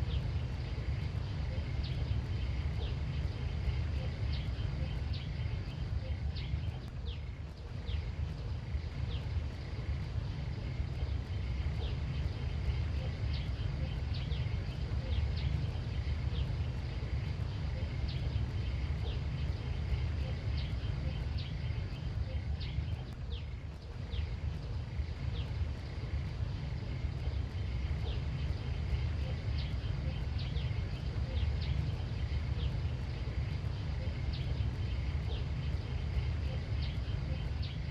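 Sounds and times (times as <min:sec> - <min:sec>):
bird chirps: 0:00.0 - 0:37.9
low rumble: 0:00.0 - 0:37.9.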